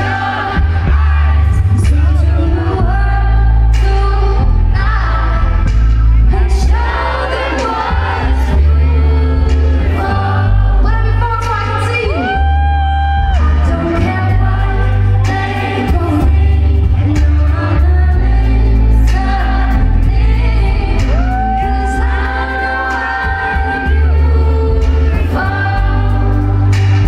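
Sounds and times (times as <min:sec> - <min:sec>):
live pop band: 0:00.0 - 0:27.0
woman singing: 0:00.0 - 0:27.0.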